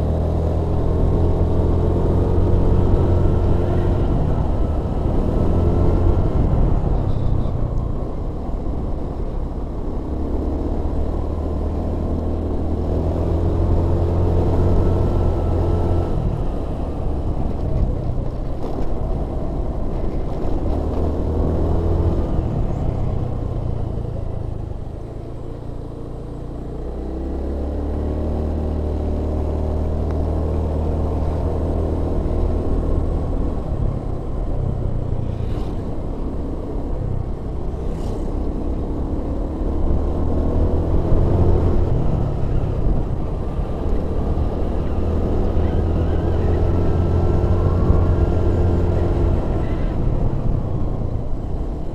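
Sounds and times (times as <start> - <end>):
road noise: 0.0 - 51.9
vehicle engine running: 0.0 - 51.9.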